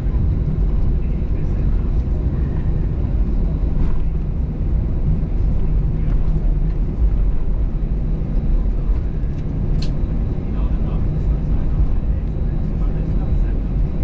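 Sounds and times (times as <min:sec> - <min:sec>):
low rumble inside aircraft cabin: 0:00.0 - 0:14.0.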